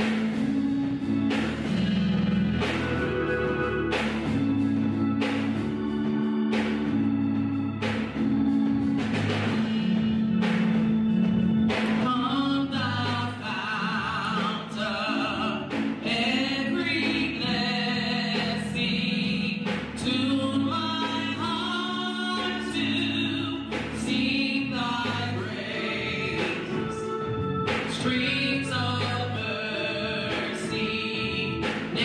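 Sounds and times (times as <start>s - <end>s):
choir singing gospel: 0.0s - 32.0s
instrumental backing with beats: 0.0s - 32.0s.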